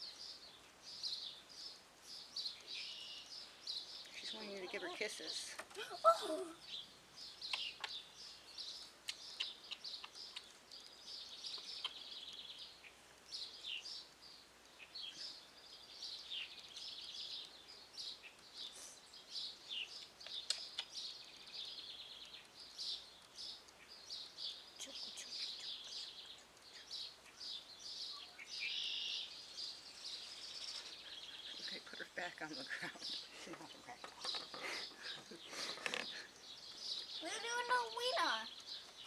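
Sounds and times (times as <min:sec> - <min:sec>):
songbirds chirping and singing: 0:00.0 - 0:39.0.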